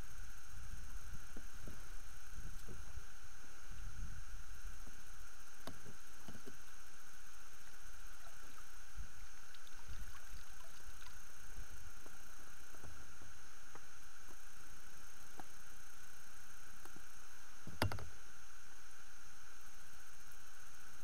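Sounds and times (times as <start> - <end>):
high electronic hum: 0.0 - 21.0.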